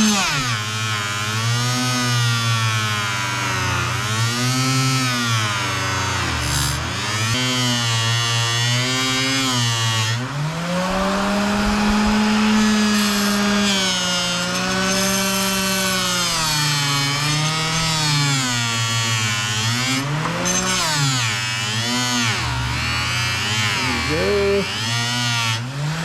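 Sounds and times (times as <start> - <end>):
bench grinder running: 0.0 - 26.0.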